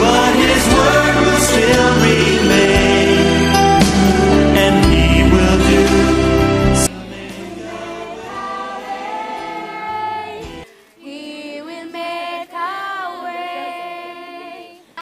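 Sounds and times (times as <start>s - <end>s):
choir singing unaccompanied: 0.0s - 15.0s.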